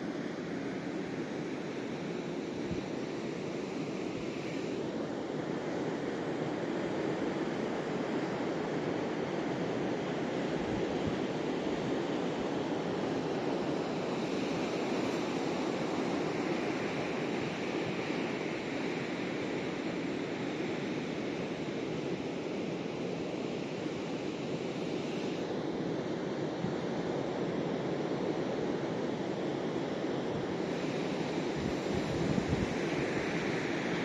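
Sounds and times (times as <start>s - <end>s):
wind: 0.0s - 34.0s.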